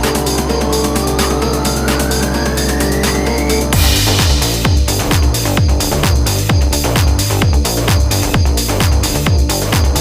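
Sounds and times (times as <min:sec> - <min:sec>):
electronic dance music: 0:00.0 - 0:10.0
steady kick drum: 0:00.0 - 0:10.0.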